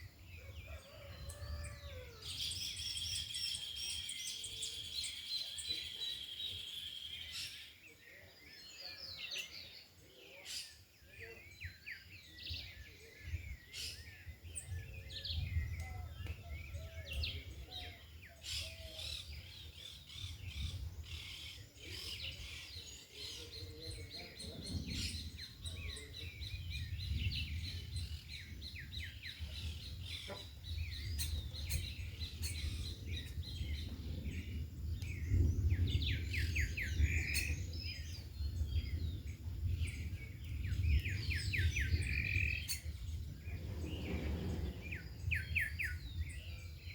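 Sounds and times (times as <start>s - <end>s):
wind rumble on microphone: 0.0s - 7.5s, 11.0s - 46.9s
birds chirping and singing: 0.0s - 46.9s.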